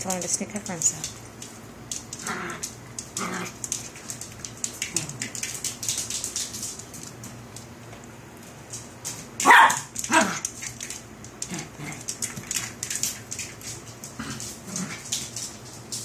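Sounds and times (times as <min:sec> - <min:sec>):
claws clicking on hard floor: 0:00.0 - 0:16.0.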